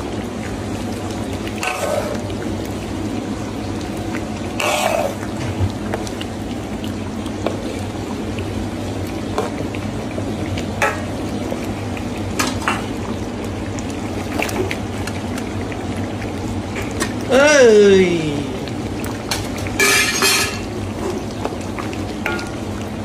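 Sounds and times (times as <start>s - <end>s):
sauce simmering and bubbling: 0.0s - 23.0s.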